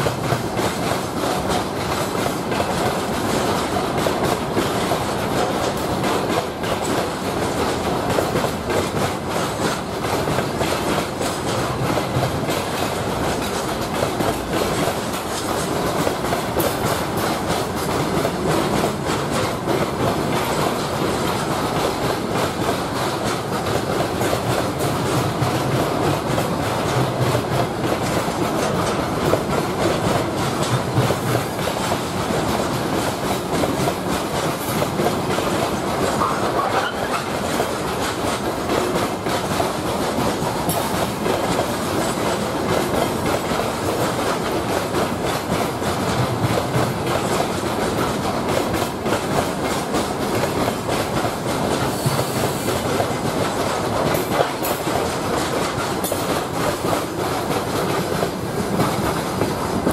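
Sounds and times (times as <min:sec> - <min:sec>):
freight train wheels rumbling: 0:00.0 - 0:59.9
train wheels clacking: 0:00.0 - 0:59.9.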